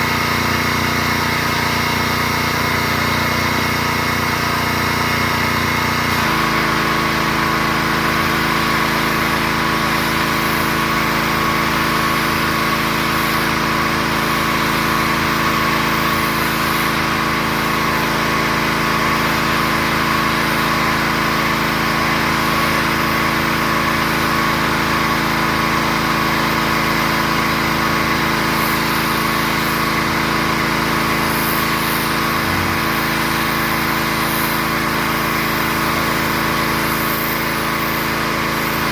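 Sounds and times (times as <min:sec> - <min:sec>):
pressure washer engine running: 0:00.0 - 0:38.9.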